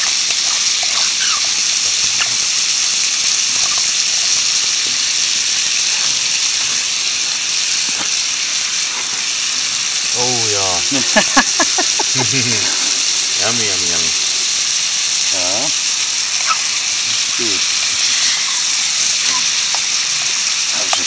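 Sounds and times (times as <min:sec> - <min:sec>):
bacon sizzling in a pot: 0:00.0 - 0:21.0.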